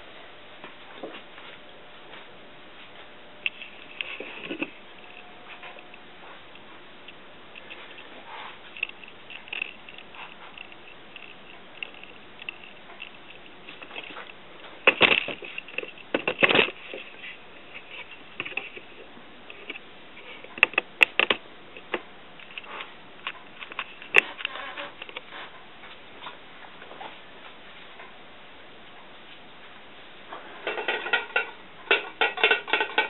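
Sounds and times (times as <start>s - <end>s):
wood fire crackling and popping: 3.4s - 28.2s, 29.3s - 33.0s.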